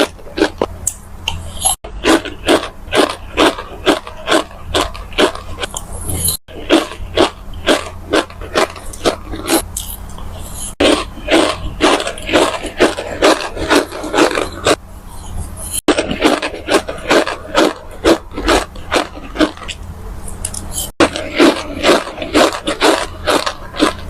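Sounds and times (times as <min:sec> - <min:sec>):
crunching and chewing in a mouth: 0:00.0 - 0:24.0.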